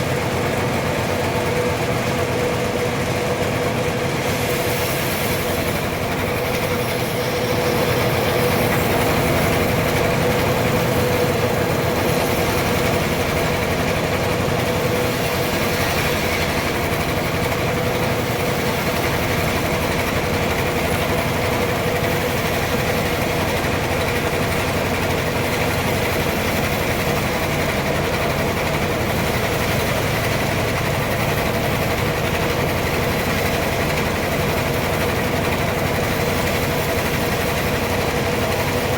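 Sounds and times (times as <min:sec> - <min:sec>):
sawmill sawing log: 0:00.0 - 0:38.9.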